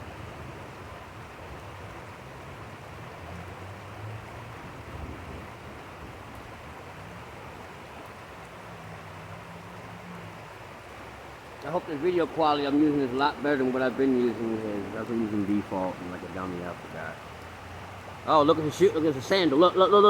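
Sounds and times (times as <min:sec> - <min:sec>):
fast-flowing water rushing: 0:00.0 - 0:20.0
rain falling: 0:00.0 - 0:20.0.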